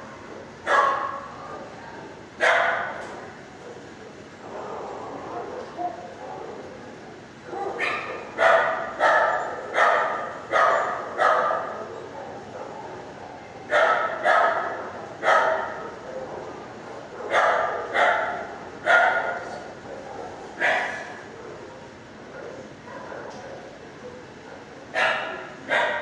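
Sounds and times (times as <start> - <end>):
dogs barking with echo: 0.5 - 1.8, 2.4 - 26.0.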